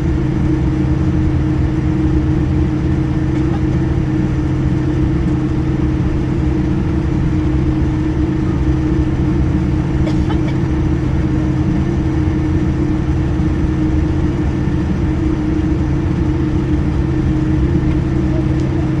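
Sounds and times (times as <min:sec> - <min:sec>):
airliner engines droning: 0:00.0 - 0:19.0.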